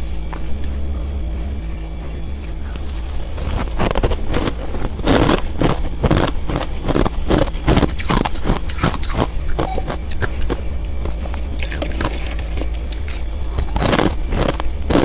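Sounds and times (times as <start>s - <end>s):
freezer frost crunching: 0.0s - 15.0s
steady low hum: 0.0s - 15.0s.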